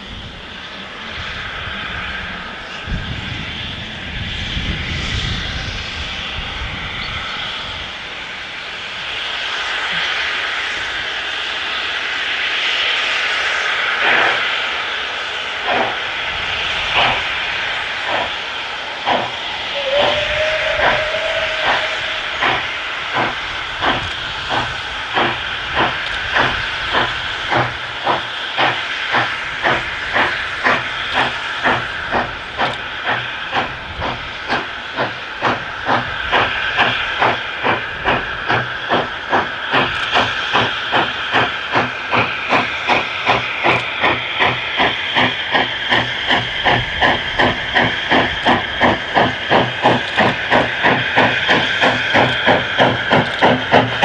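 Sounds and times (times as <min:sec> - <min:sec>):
hiss of steam: 0:00.0 - 0:54.0
steam locomotive chuffing: 0:00.0 - 0:54.0.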